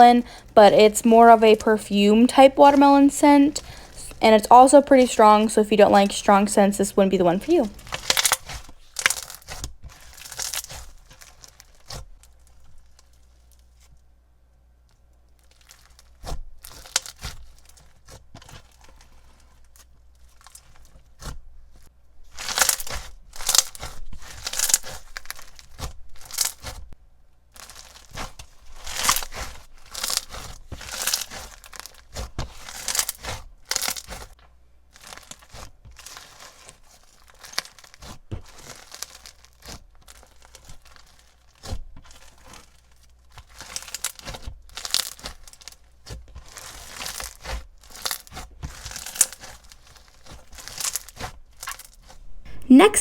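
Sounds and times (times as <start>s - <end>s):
crunchy slime squished by hand: 7.6s - 14.0s, 15.3s - 26.9s, 27.5s - 52.2s.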